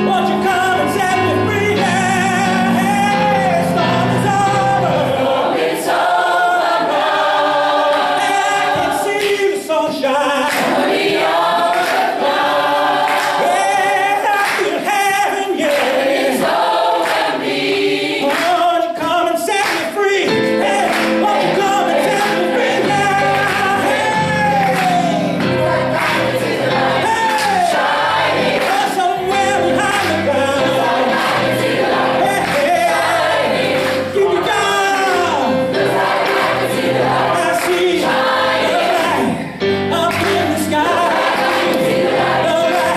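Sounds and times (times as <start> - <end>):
choir singing gospel song: 0.0 - 42.9
musical accompaniment: 0.0 - 42.9.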